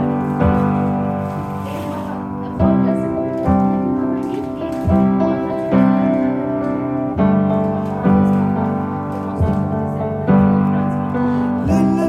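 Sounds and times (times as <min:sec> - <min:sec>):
piano-led pop instrumental: 0:00.0 - 0:12.0.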